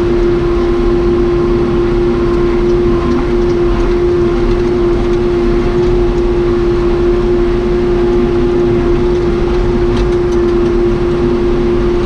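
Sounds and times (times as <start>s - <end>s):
diesel engine running: 0.0s - 12.0s
strong even whine: 0.0s - 12.0s.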